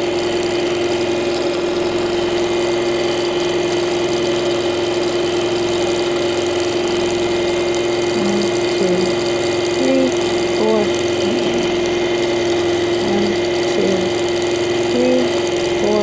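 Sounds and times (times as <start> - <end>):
quilting machine stitching: 0.0 - 16.0.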